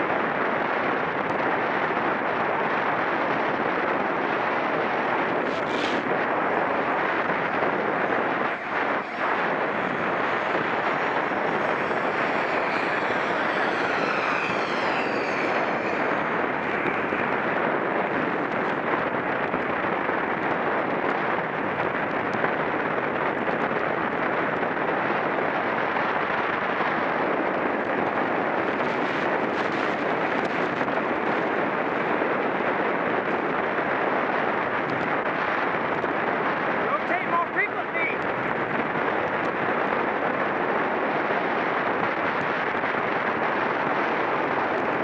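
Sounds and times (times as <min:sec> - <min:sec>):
wind rushing over microphone: 0:00.0 - 0:45.0.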